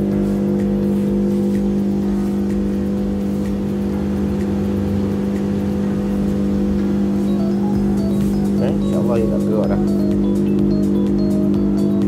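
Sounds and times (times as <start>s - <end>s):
motor and conveyor hum: 0.0s - 12.0s.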